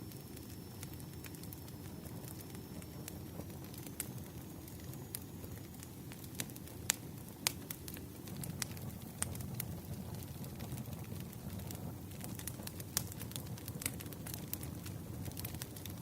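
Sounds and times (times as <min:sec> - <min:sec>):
firewood burning with crackles: 0:00.0 - 0:16.0.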